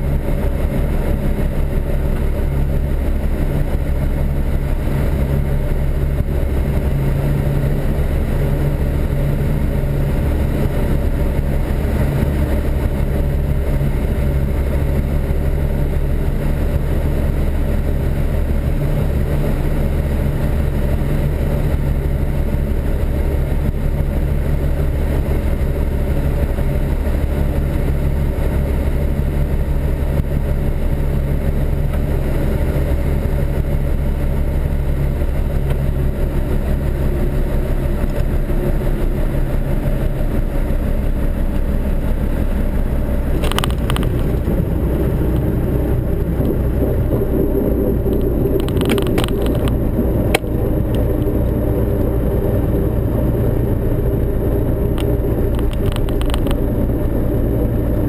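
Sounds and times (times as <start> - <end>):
light aircraft engine drone: 0.0 - 58.0.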